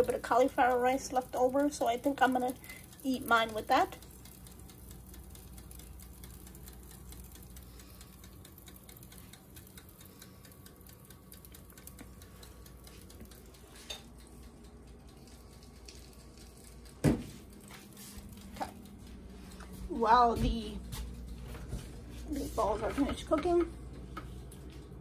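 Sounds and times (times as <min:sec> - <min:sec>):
meatballs frying in a pan: 0:00.0 - 0:25.0.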